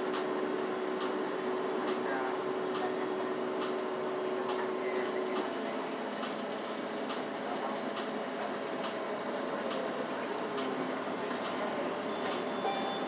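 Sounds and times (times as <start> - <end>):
bus running noise: 0.0 - 13.0.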